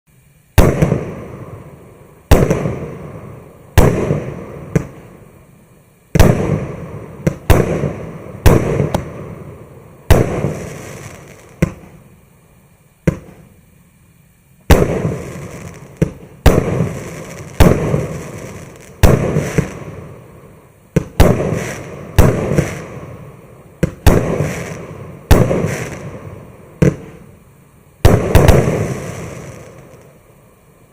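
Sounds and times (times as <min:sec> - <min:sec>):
fireworks bangs: 0:00.5 - 0:05.4, 0:06.1 - 0:12.1, 0:13.0 - 0:13.6, 0:14.6 - 0:27.4, 0:28.0 - 0:30.2.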